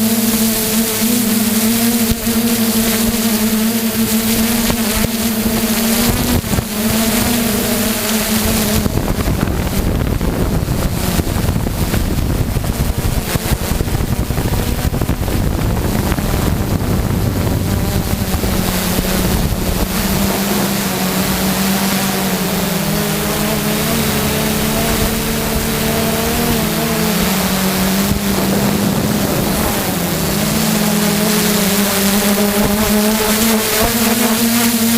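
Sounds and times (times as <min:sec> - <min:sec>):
drone motors humming: 0:00.0 - 0:34.9
wind buffeting microphone: 0:01.9 - 0:34.9.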